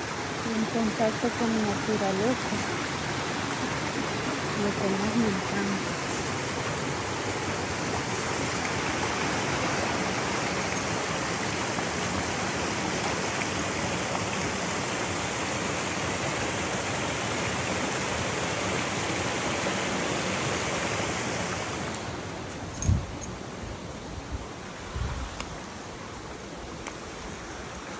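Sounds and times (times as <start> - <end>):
waterfall rushing: 0.0 - 22.5.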